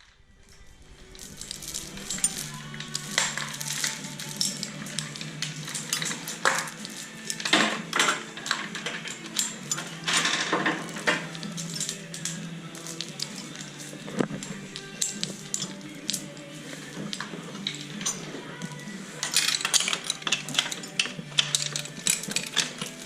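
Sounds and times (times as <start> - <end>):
metal scraping: 0.0 - 23.0
metal tools clinking: 0.5 - 23.0.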